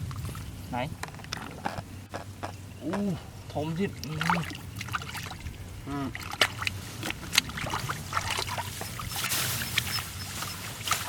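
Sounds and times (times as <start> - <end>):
muddy water sloshing and splashing: 0.0 - 11.0.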